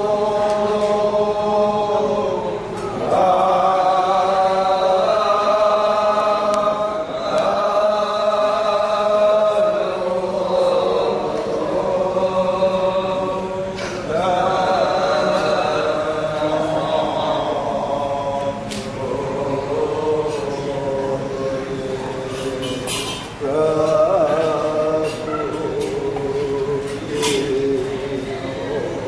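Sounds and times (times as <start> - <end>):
voices chanting in unison: 0.0 - 29.0.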